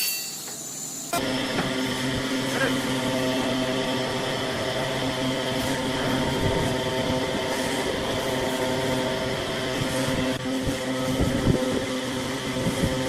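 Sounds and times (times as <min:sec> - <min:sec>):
wood lathe motor humming: 0:01.2 - 0:13.0.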